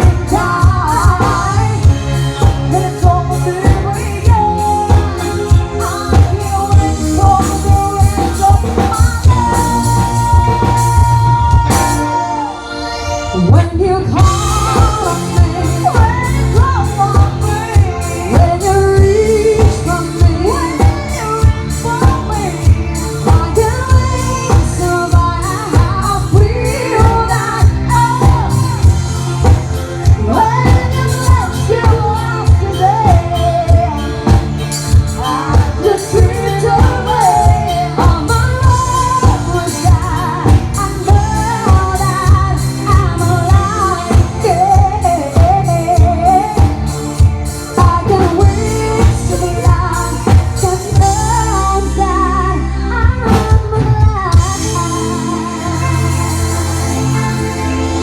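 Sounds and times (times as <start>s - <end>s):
band playing pop song: 0.0s - 58.0s
person singing: 0.0s - 58.0s.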